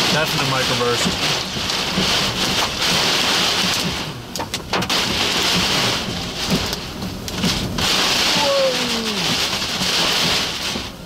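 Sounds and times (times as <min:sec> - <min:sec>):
heavy rain and hail on car: 0:00.0 - 0:11.0.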